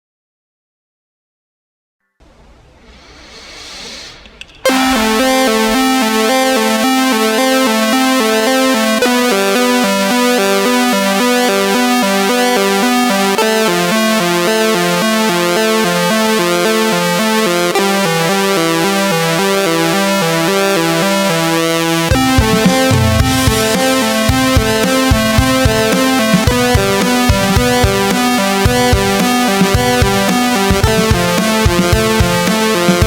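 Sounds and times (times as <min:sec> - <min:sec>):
electronic synthesizer music: 0:04.6 - 0:33.0.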